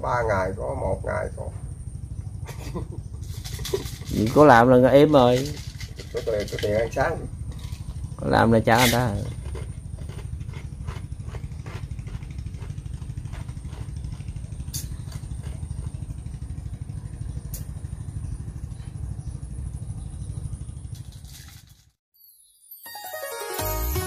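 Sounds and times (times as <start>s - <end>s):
small engine running: 0.1s - 22.0s.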